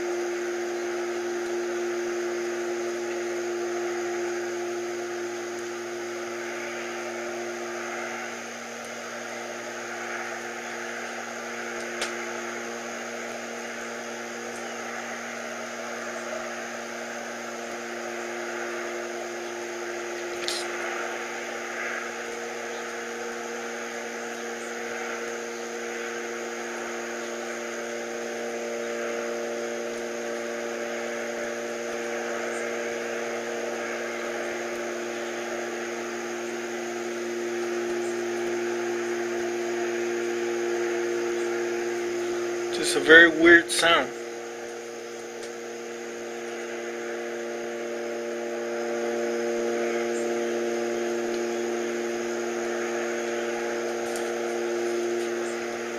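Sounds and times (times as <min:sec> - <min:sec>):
humming with held tones: 0:00.0 - 0:55.9.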